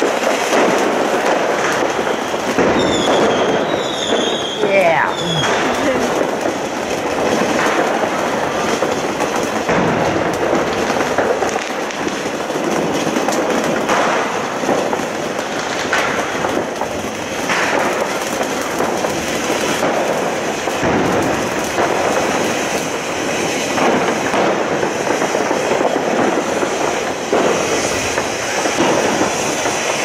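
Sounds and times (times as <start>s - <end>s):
firework crackling: 0.0s - 30.0s
firework fountain hissing: 0.0s - 30.0s
sharp firework cracks: 0.0s - 30.0s.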